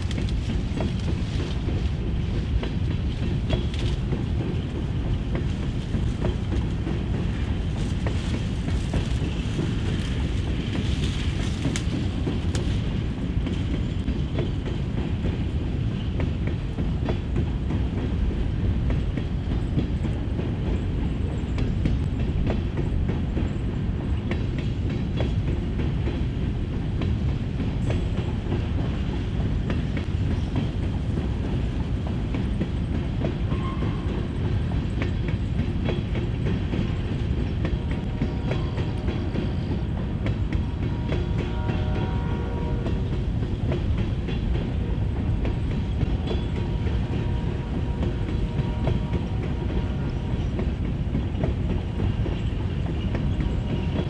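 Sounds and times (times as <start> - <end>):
steel wheels rumbling on rail: 0.0 - 54.0
wheels clicking over rail joints: 0.0 - 54.0.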